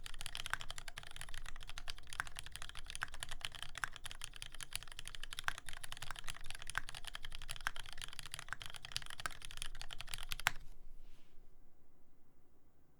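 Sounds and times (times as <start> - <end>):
fast typing on mechanical keyboard: 0.0 - 10.6.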